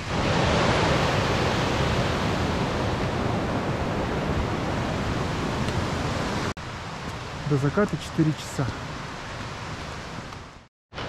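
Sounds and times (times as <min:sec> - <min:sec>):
mountain river rushing: 0:00.0 - 0:11.0.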